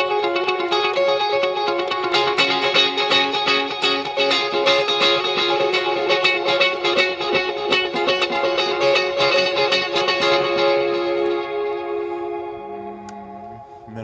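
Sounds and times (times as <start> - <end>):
electric guitar with delay: 0.0 - 14.0.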